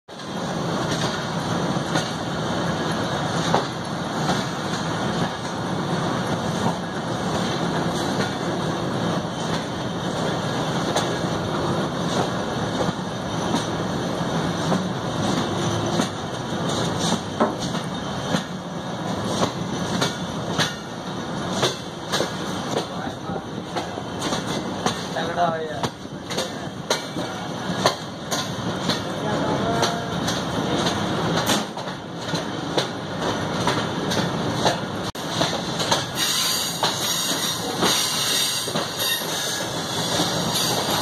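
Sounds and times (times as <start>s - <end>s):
train wheels rumbling and rattling: 0.1s - 41.0s.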